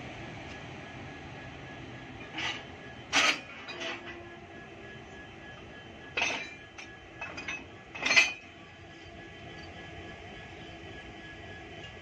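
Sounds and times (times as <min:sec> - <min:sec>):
locomotive rolling over rails: 0:02.1 - 0:12.0.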